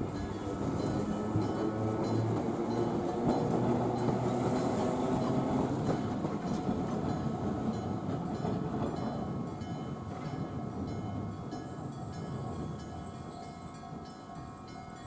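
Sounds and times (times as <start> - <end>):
tram wheels rumbling: 0.0 - 14.9.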